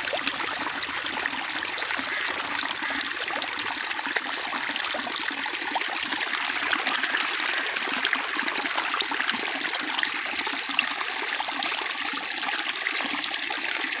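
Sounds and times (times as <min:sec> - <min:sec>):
water rushing and bubbling: 0:00.0 - 0:11.4.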